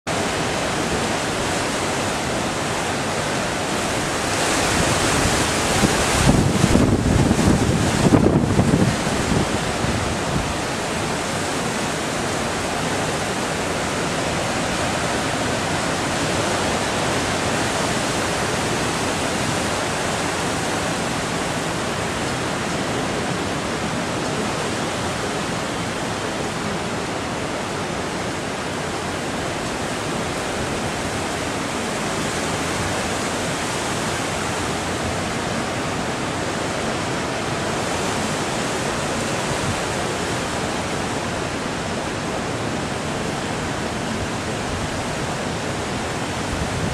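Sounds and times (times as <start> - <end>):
wind: 0.0 - 46.9
rain: 0.1 - 46.9
surf: 0.1 - 46.9.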